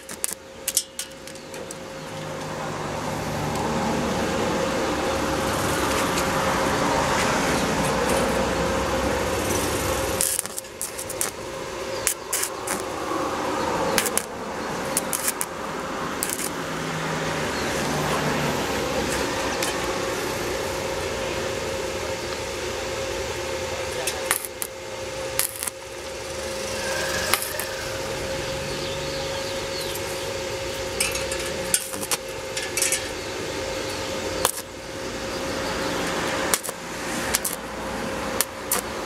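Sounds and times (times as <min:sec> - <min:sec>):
outdoor traffic noise: 0:00.0 - 0:39.0.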